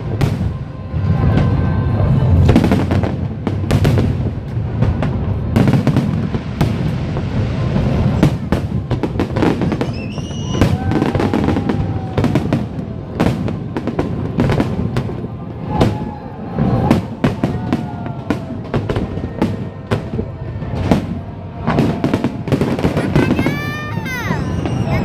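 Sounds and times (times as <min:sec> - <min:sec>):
low rumble and crackle: 0:00.0 - 0:22.9
fireworks bangs: 0:00.0 - 0:25.0.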